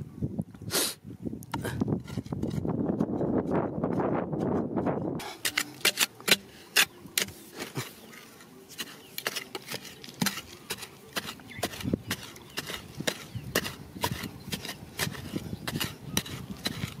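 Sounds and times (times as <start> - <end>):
metal trowel scraping stony soil: 1.5 - 17.0.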